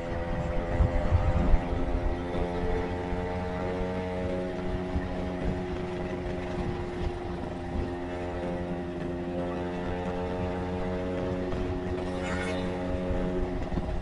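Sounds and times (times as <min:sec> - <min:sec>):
motorcycle engine cruising: 0:00.0 - 0:14.0
wind and road rumble: 0:00.0 - 0:14.0.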